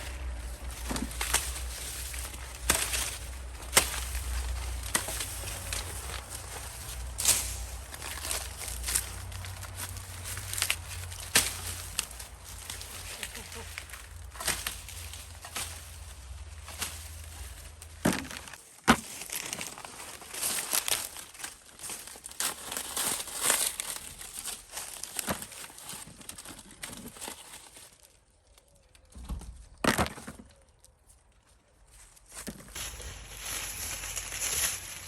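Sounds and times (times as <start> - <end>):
dry corn plants rustling: 0.0 - 29.8, 30.4 - 35.0.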